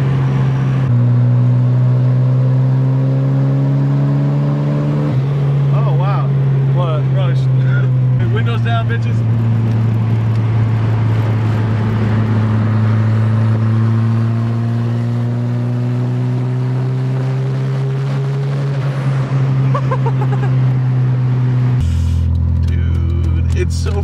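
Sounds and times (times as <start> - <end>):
car engine running at speed: 0.0 - 24.0.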